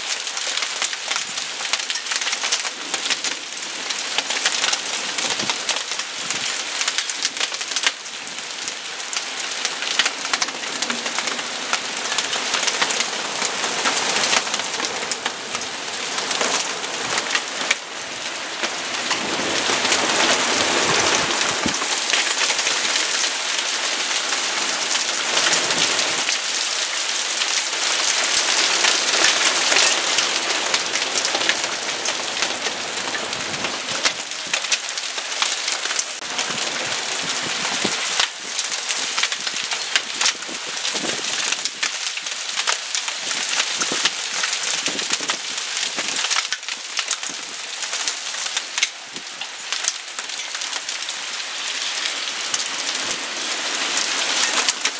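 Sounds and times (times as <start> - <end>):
hailstones hitting: 0.0 - 54.9
heavy rain hissing: 2.5 - 54.9.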